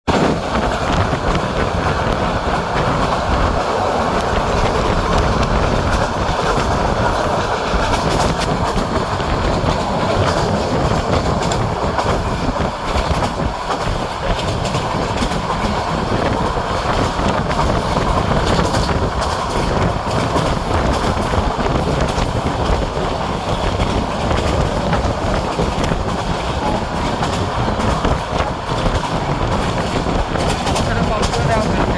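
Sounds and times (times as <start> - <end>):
train rumbling: 0.0 - 31.9
wheels clattering over rail joints: 0.1 - 31.9.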